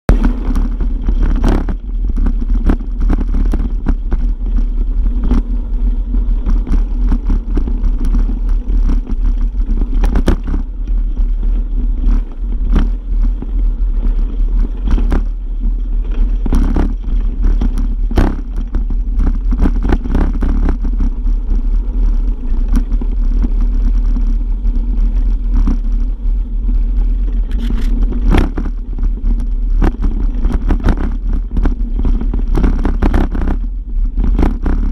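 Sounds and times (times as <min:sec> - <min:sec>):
wind and vibration rumble: 0:00.0 - 0:34.9.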